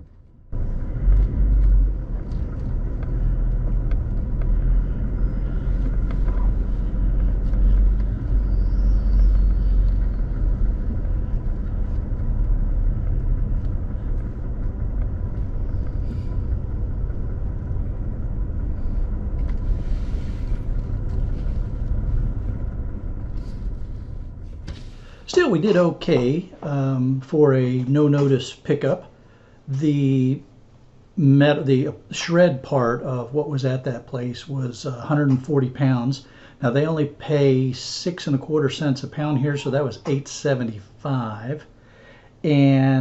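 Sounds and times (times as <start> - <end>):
faint steady hum: 0.0 - 43.0
truck engine and road noise: 0.0 - 43.0.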